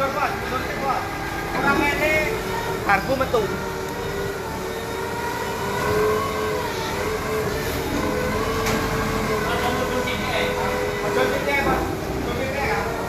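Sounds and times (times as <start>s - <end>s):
machine droning hum: 0.0s - 13.0s
noisy background: 0.0s - 13.0s
whining tones: 0.0s - 13.0s.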